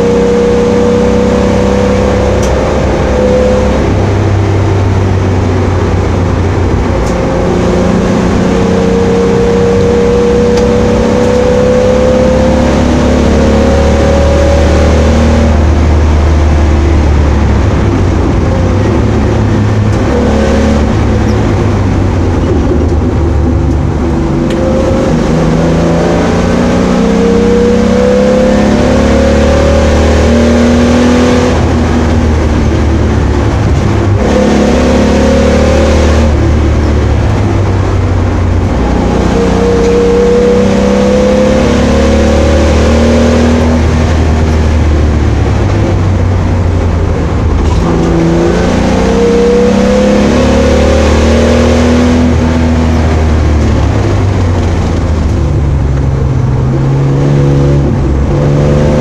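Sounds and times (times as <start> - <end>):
race car engine pulling hard: 0.0 - 59.0.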